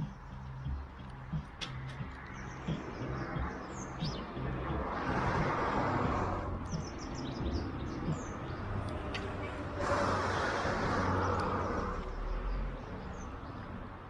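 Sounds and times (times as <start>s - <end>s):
bird chirping: 0.0s - 14.0s
rushing noise: 1.3s - 12.7s.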